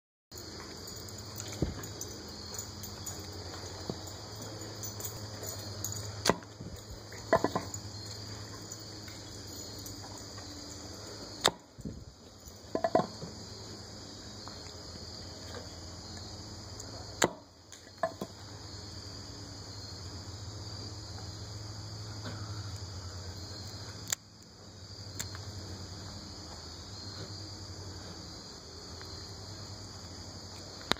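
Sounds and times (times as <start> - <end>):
high-pitched insects: 0.3 - 30.9.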